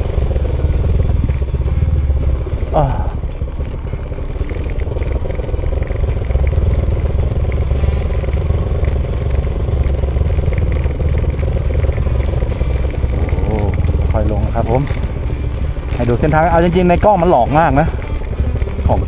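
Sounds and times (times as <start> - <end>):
motorcycle engine running: 0.0 - 19.0
motorcycle rattling over bumps: 0.0 - 19.0.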